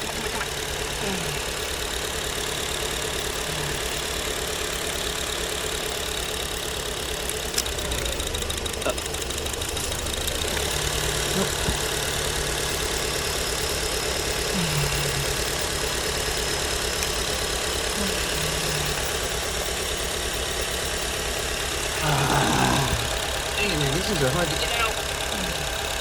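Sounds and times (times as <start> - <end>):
car engine idling with misfire: 0.0 - 26.0.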